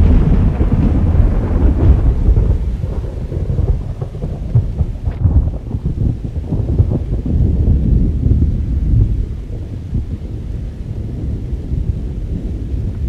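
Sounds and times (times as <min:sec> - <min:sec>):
deep thunder rumble: 0:00.0 - 0:13.0
rain: 0:00.0 - 0:13.0.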